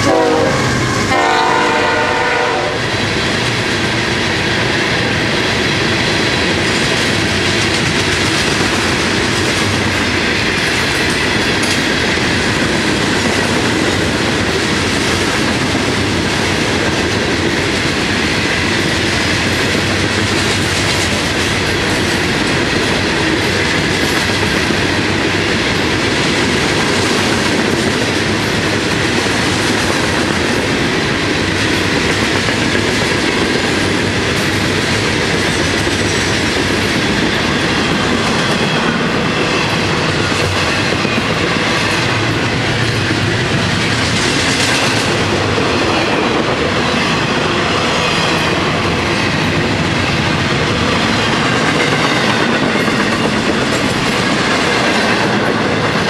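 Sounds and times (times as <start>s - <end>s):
steel wheels rolling on rails: 0.0s - 56.0s.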